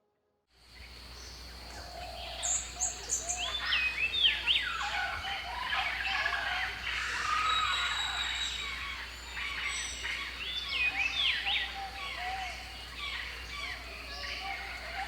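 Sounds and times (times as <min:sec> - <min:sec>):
steady background hiss: 0:00.6 - 0:15.0
birds calling: 0:00.8 - 0:15.0.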